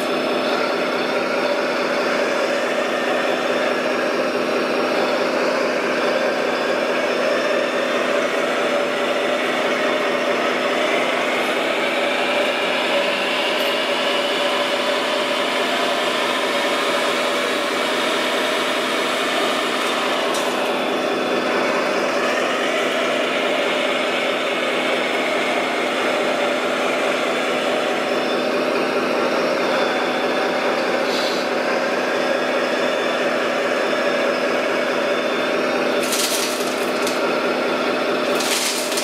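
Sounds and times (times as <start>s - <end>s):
electric motors and hydraulics whining: 0.0s - 39.0s
engine drone: 0.0s - 39.0s.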